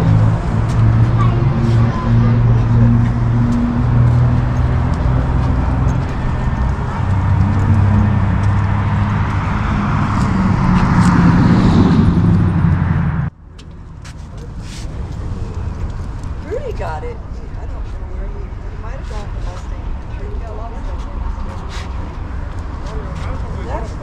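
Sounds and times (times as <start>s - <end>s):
car engine humming: 0.0s - 24.0s.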